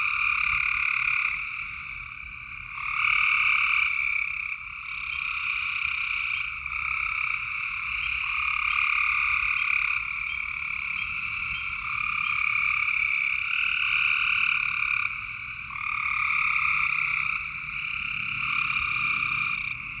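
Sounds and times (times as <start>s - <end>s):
frogs calling: 0.0s - 20.0s.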